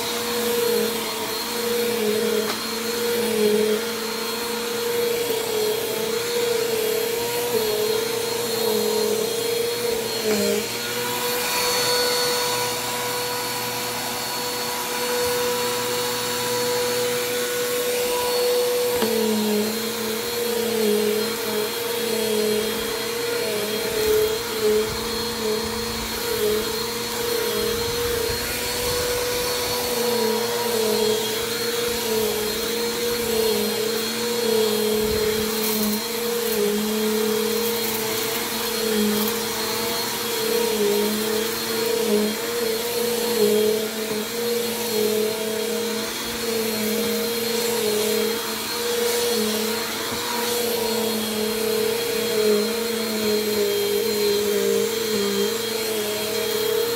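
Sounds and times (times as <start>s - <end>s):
vacuum cleaner on carpet: 0.0s - 56.9s.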